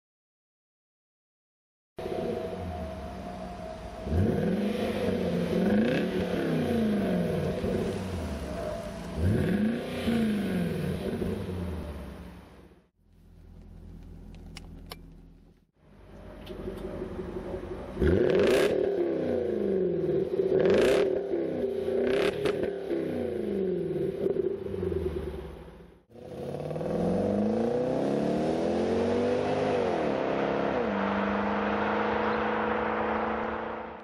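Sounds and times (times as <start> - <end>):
car engine revving: 2.0 - 15.0, 16.5 - 34.0.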